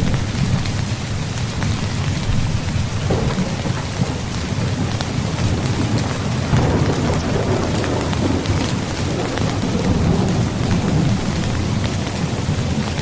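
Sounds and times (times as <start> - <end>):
low thunder rumble: 0.0 - 13.0
rain falling on a tent: 0.0 - 13.0.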